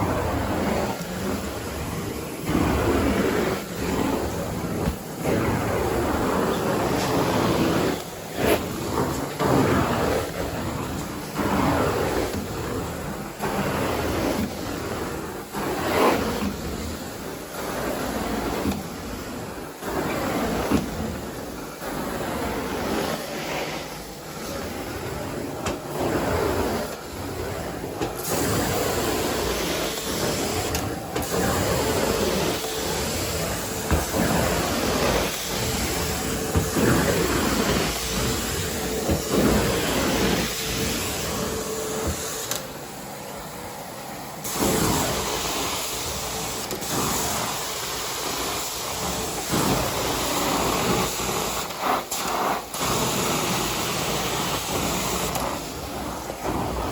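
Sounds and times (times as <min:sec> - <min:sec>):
vacuum suction whining: 0:00.0 - 0:56.9.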